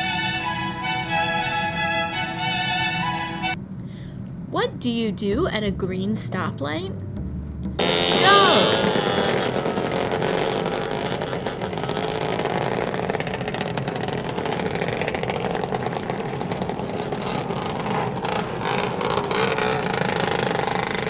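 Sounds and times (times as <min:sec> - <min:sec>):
car engine driving off: 0:00.0 - 0:03.6, 0:07.0 - 0:21.0.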